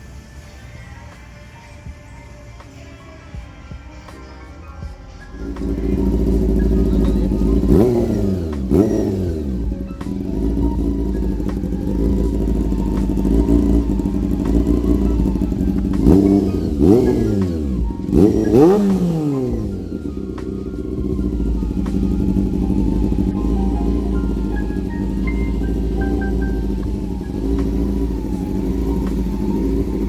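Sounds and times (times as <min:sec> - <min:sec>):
motorcycle engine idling and revving: 0:04.8 - 0:30.0.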